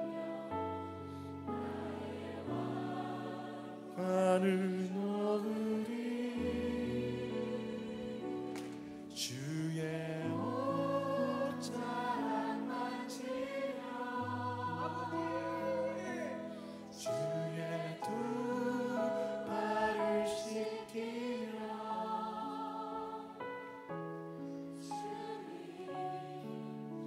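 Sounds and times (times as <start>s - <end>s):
worship band playing slow song: 1.1s - 23.3s
voices singing: 1.5s - 23.7s, 24.8s - 27.0s.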